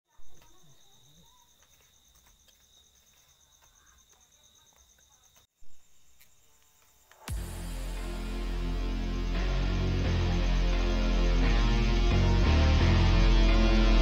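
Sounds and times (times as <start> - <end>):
insect trill: 0.1 - 14.0.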